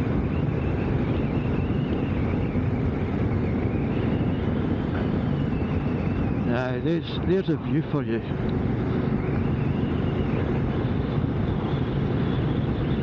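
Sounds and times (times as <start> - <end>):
motorcycle engine cruising: 0.0 - 13.0
wind rushing over microphone: 0.0 - 13.0.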